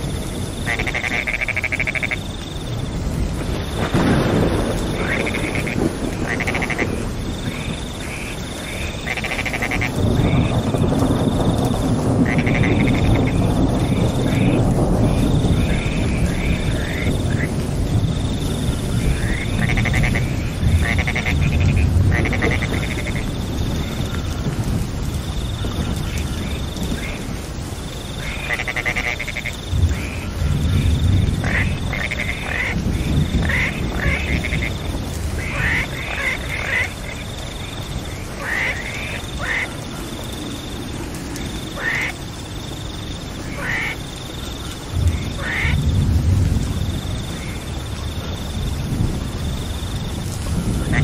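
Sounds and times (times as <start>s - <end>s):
frogs croaking: 0.0s - 51.0s
steady rain: 0.0s - 51.0s.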